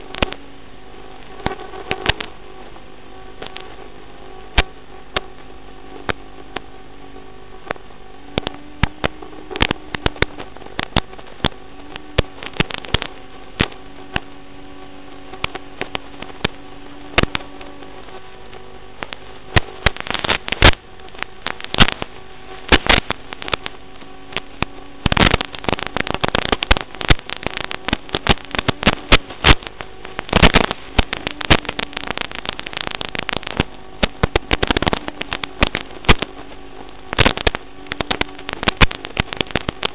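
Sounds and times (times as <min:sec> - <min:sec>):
crackling clicks and pops: 0:00.0 - 0:39.9
electrical hum: 0:00.0 - 0:39.9.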